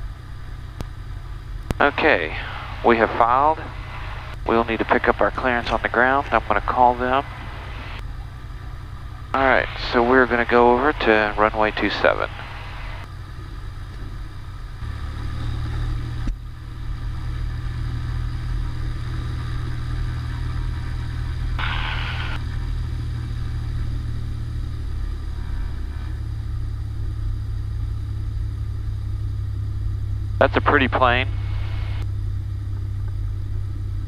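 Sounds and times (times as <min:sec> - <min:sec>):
propeller plane engine drone: 0:00.0 - 0:34.0.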